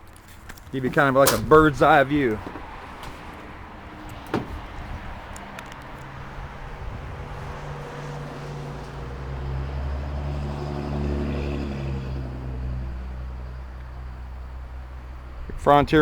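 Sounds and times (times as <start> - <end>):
vehicle engine droning: 0.7 - 16.0.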